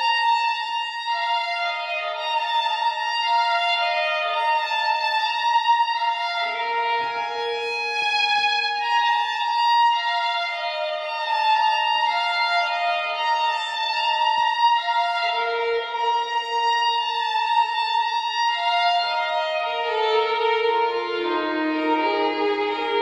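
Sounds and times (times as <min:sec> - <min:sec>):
fiddle bowing long notes: 0:00.0 - 0:23.0.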